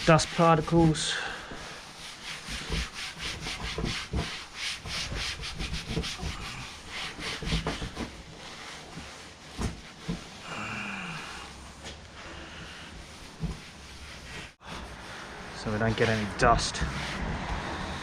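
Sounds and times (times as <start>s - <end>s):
wipe scrubbing cabinet door: 0.0s - 18.0s.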